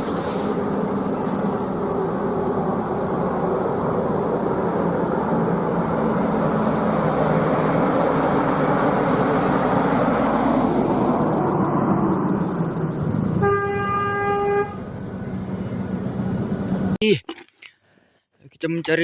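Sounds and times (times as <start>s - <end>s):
vehicle engine rumble: 0.0s - 17.8s.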